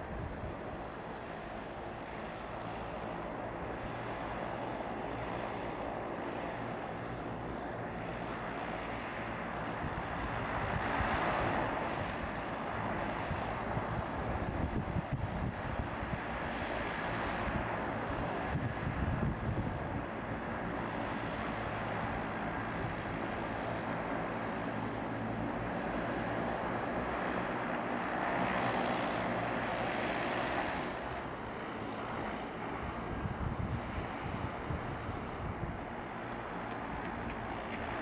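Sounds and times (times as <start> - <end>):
turboprop engines running: 0.0 - 38.0.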